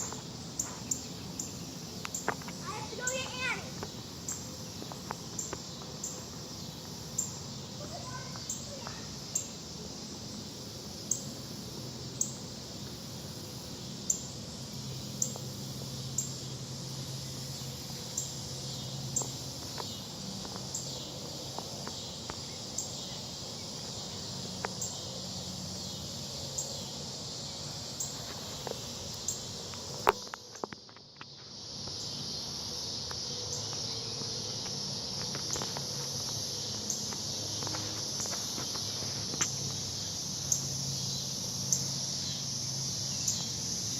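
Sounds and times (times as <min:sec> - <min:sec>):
high-pitched insect chorus: 0:00.0 - 0:43.9.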